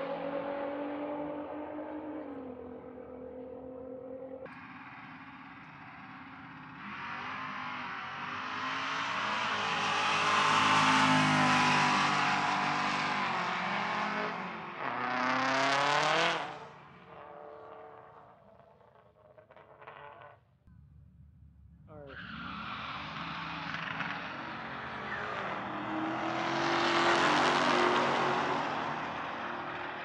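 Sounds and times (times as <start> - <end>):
drag racing car engine: 0.0 - 30.0.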